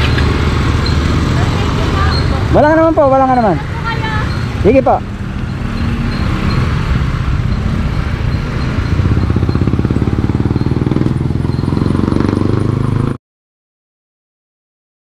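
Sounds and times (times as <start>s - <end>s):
motorcycle engine running: 0.0s - 13.2s
road traffic passing: 0.0s - 13.2s.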